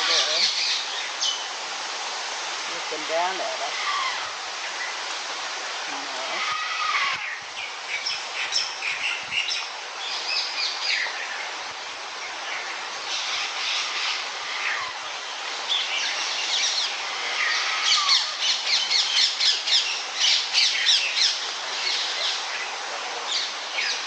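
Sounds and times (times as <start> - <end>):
birds chirping and squawking: 2.9 - 5.2, 5.8 - 11.2, 12.3 - 24.0.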